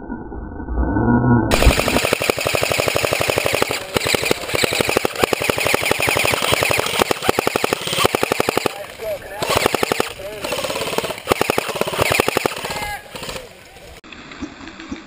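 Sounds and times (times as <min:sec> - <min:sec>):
airsoft gun firing rapid shots: 0:01.5 - 0:13.8.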